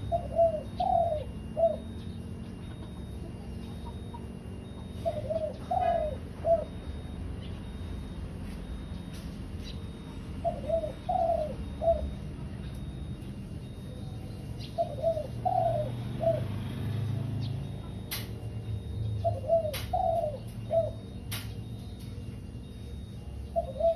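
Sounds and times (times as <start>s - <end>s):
dove cooing: 0.0s - 23.9s.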